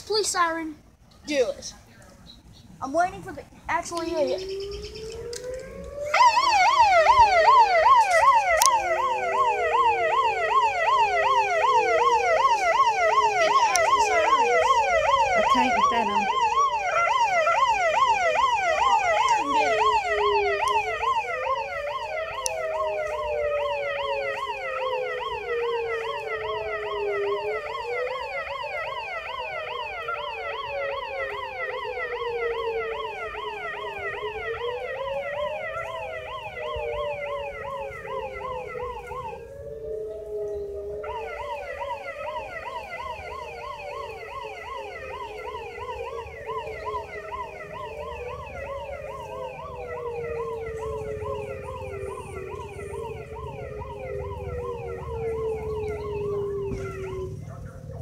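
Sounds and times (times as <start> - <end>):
electronic siren yelp and wail: 2.8 - 58.0.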